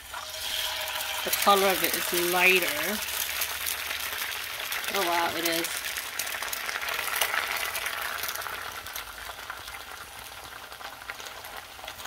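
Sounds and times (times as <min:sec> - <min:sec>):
eggs sizzling in a frying pan: 0:00.0 - 0:12.0.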